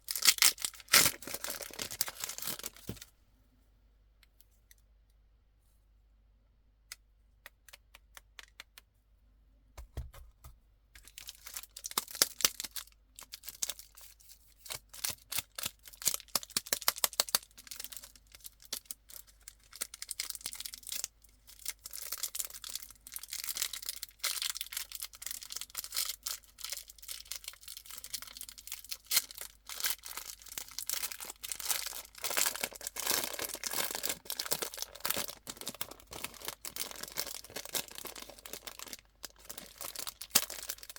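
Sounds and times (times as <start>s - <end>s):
plastic wrappers crinkling and tearing: 0.0s - 3.1s, 11.0s - 40.9s.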